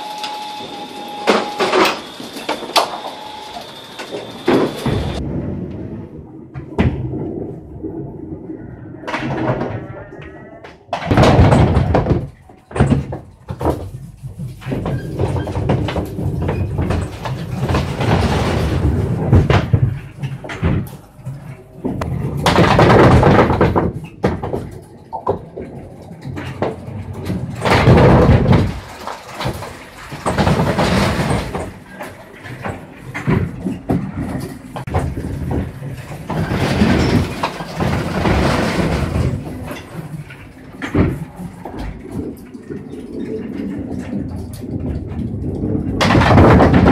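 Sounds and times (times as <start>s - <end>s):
bowling pins clattering: 0.0s - 5.2s, 9.0s - 46.9s
winch mechanism running and clunking: 0.0s - 5.2s, 10.9s - 46.9s.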